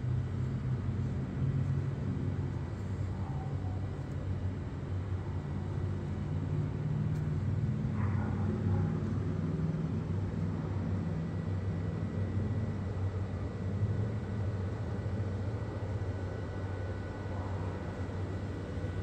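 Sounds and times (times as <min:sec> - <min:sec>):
low mechanical hum and rumble: 0:00.0 - 0:19.0.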